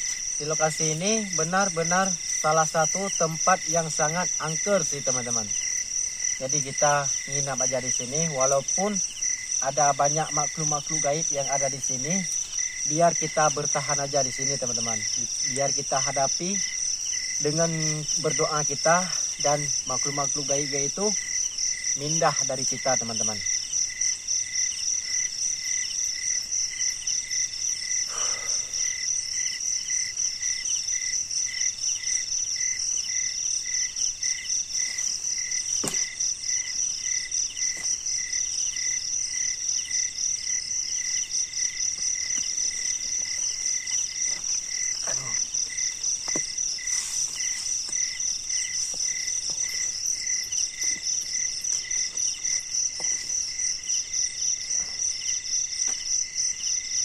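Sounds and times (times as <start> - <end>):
insect chirping: 0.0 - 57.0
insects trilling: 0.0 - 57.0.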